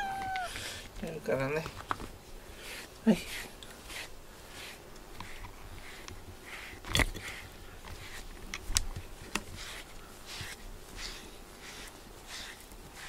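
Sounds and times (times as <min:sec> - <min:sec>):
brush stroking cat fur: 0:02.2 - 0:13.0.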